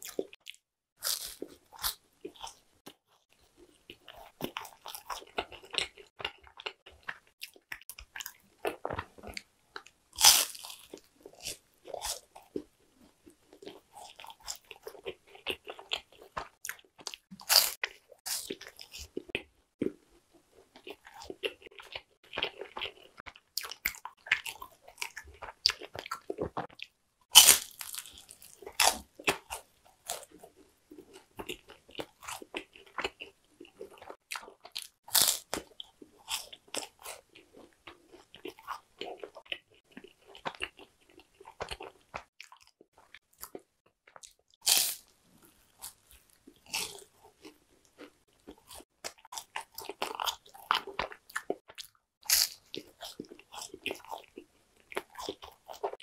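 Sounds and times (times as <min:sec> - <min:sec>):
crunchy snack bites: 0:00.0 - 0:02.6, 0:04.0 - 0:12.7, 0:13.5 - 0:20.0, 0:20.8 - 0:56.0
crackly chewing: 0:00.0 - 0:56.0.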